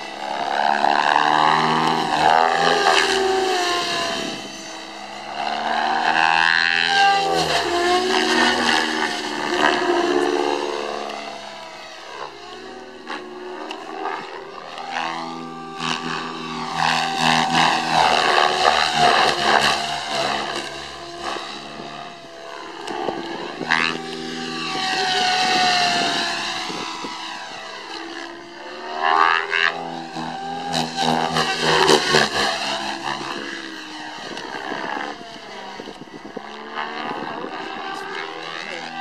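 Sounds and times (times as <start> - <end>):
rc helicopter motor whine: 0.0 - 39.0.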